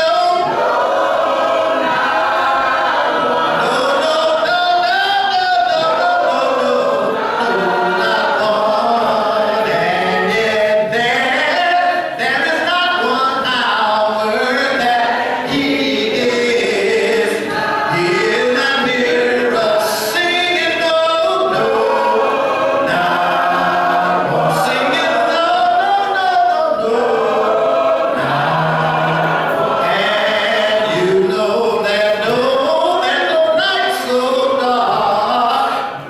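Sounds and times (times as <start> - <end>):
group singing a cappella gospel: 0.0 - 36.0.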